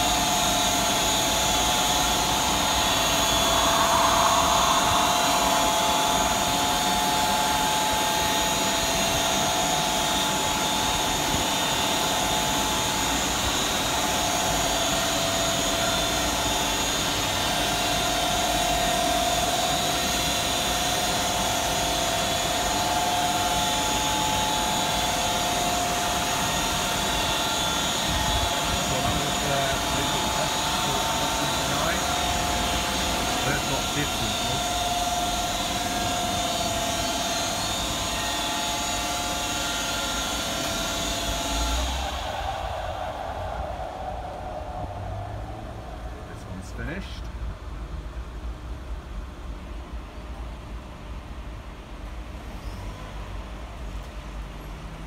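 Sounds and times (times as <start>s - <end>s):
car wash machine whirring: 0.0s - 48.3s.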